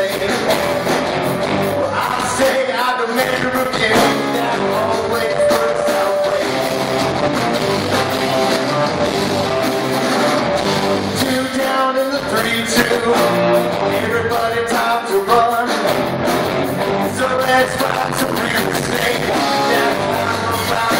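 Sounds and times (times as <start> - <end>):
live rock band playing: 0.0 - 2.4, 3.5 - 20.9.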